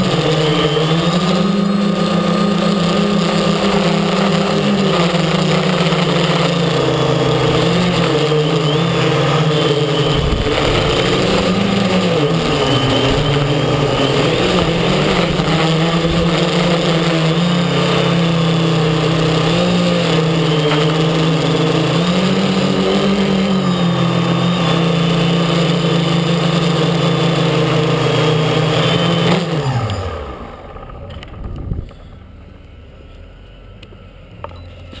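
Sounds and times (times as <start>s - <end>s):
quadcopter motors droning: 0.0s - 35.0s.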